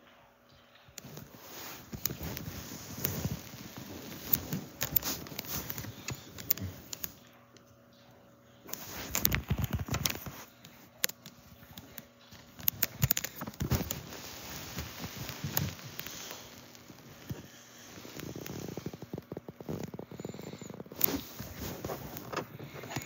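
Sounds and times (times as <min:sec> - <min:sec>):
phone rustling against fabric: 0:01.0 - 0:07.2, 0:08.7 - 0:23.0.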